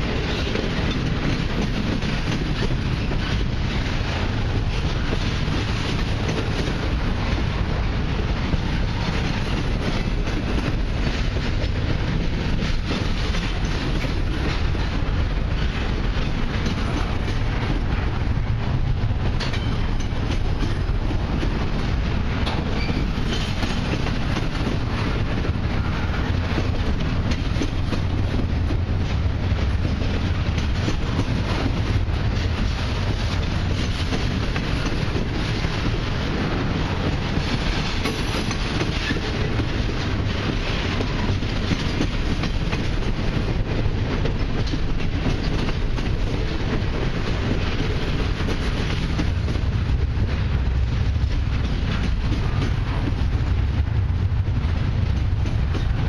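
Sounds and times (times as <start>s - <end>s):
train wheels rolling on rail: 0.0s - 56.0s.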